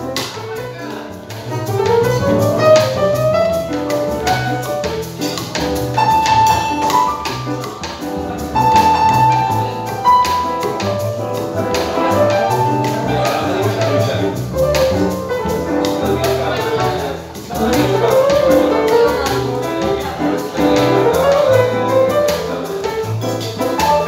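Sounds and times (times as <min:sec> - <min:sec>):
grand piano melody and chords: 0:00.0 - 0:24.0
plucked upright double bass: 0:00.0 - 0:24.0.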